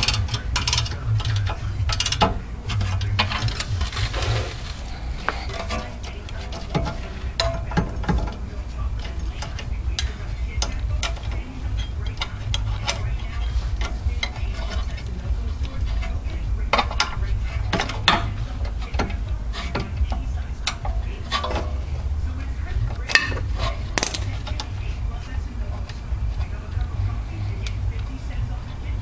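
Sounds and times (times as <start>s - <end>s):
metal tools clinking and scraping: 0.0s - 28.8s
steady low rumble: 0.0s - 29.0s.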